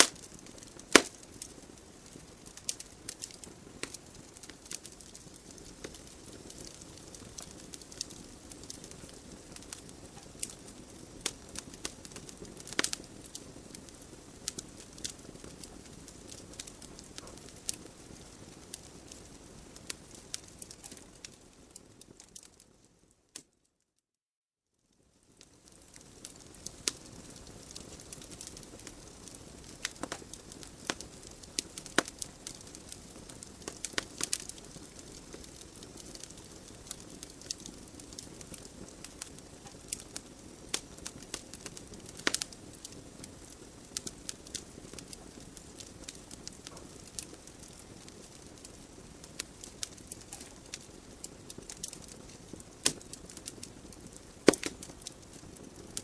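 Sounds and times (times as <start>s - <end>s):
wood fire pops and snaps: 0.0s - 22.6s, 25.4s - 56.0s
soft hiss of flames: 0.0s - 23.5s, 24.8s - 56.0s.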